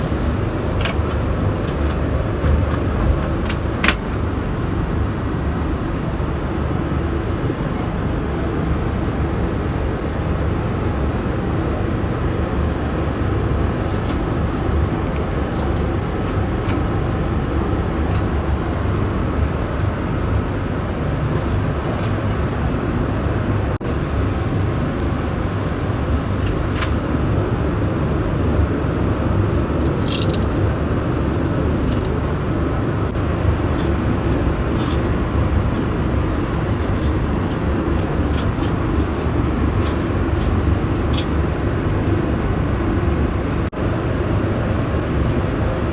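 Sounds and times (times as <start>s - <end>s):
airliner cabin rumble: 0.0s - 45.8s.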